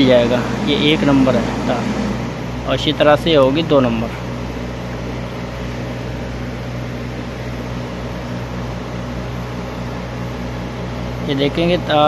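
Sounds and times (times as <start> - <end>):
held low tones: 0.0 - 12.0
low mechanical hum: 0.0 - 12.0.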